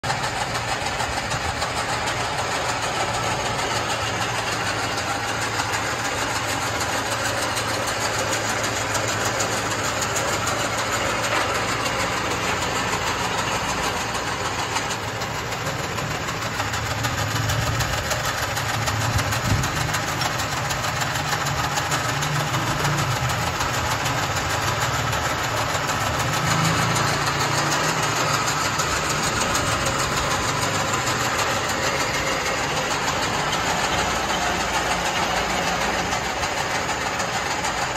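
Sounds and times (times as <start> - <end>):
gear cutter chatter: 0.1 - 37.9.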